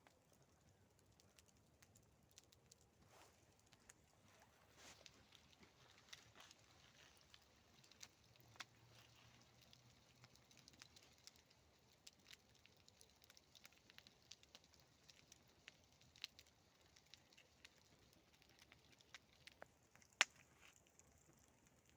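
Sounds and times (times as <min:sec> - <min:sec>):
campfire crackling: 0:00.0 - 0:21.9.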